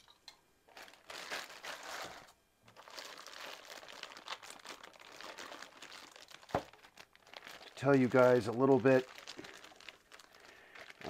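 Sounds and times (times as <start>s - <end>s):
packaging crinkling and rustling: 0.7s - 11.0s.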